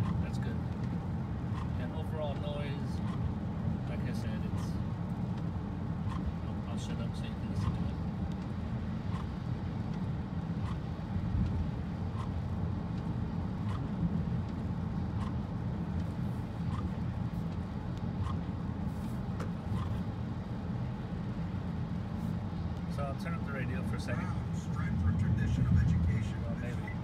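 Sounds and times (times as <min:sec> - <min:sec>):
tyres rumbling on wet road: 0:00.0 - 0:27.0
windshield wiper ticks: 0:00.0 - 0:27.0.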